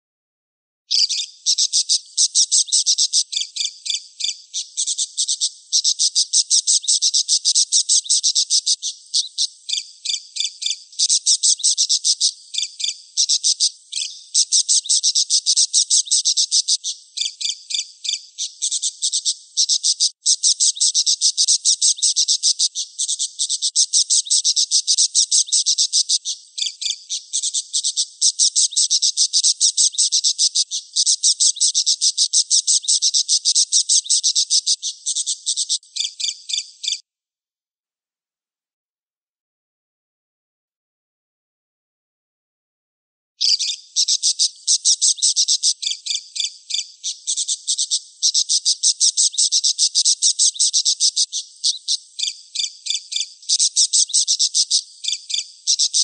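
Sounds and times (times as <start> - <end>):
budgerigar chattering: 0.9 - 37.0, 43.4 - 56.0.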